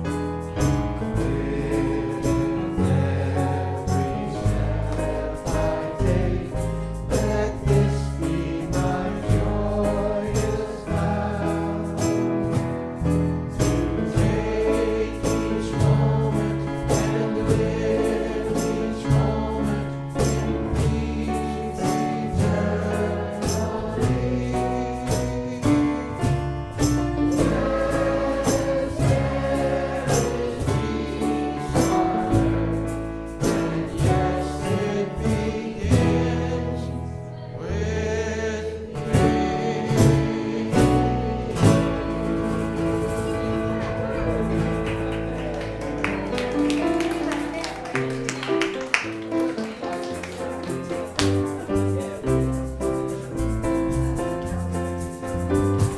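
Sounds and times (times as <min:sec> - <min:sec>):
gospel choir singing: 0:00.0 - 0:53.6.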